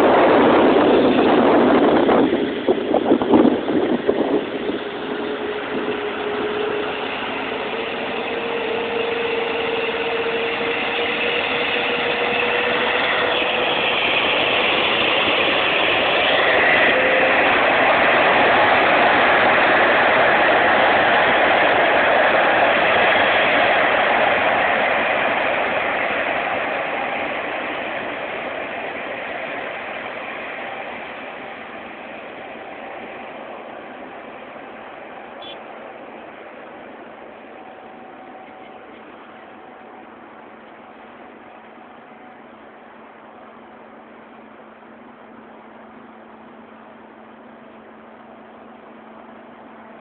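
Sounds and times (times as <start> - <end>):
jet engines roaring: 0.0 - 43.3.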